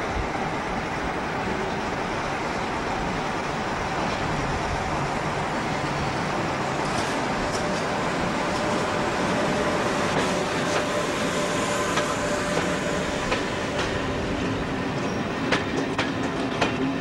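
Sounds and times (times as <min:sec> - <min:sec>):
electric locomotive running: 0:00.0 - 0:17.0.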